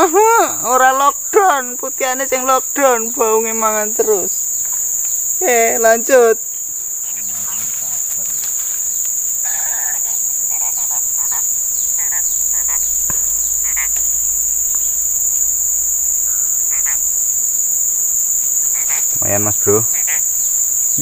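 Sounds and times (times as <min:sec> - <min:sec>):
insect chorus drone: 0:00.0 - 0:21.0
short scattered calls: 0:00.0 - 0:21.0.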